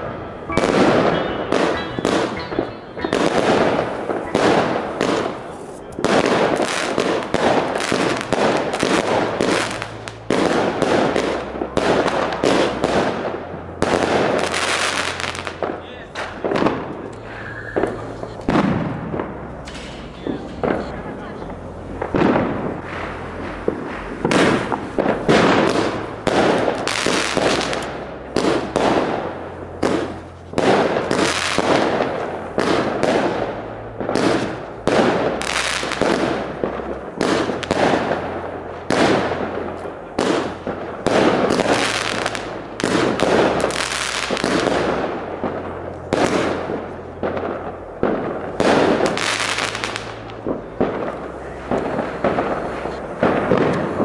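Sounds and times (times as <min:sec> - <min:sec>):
fireworks banging: 0:00.0 - 0:54.0.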